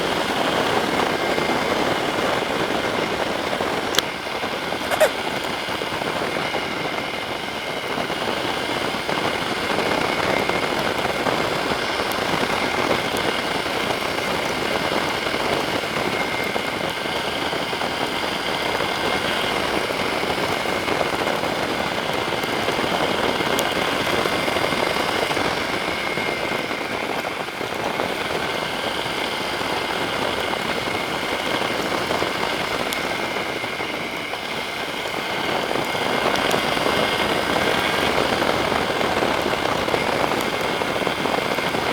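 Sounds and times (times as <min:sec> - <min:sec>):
wind and rain on microphone: 0:00.0 - 0:41.9.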